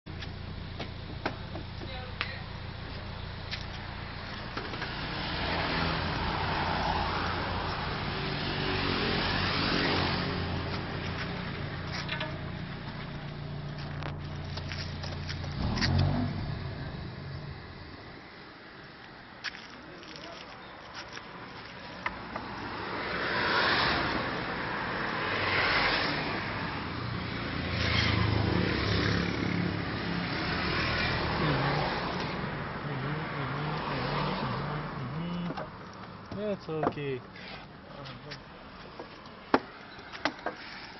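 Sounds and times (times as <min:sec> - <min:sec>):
road noise: 0:00.0 - 0:40.9
vehicle engine hum: 0:00.1 - 0:40.9.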